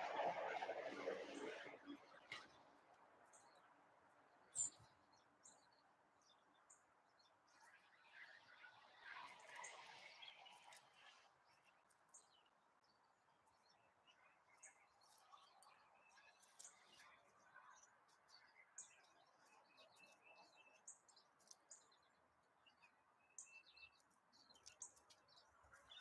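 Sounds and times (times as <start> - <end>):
songbirds chirping: 1.5 - 26.0.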